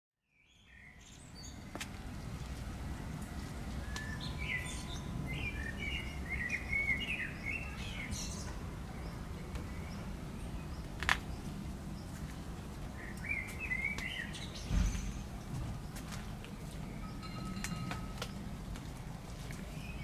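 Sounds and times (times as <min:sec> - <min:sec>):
songbird chirping and trilling: 0:00.3 - 0:01.8, 0:03.7 - 0:12.3, 0:12.9 - 0:18.6, 0:19.6 - 0:20.0
low outdoor rumble: 0:01.1 - 0:20.0.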